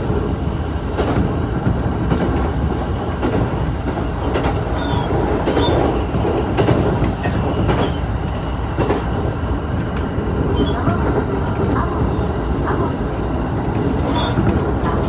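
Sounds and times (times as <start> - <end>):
rail clicks: 0.0 - 15.0
train wheels rumbling on rails: 0.0 - 15.0.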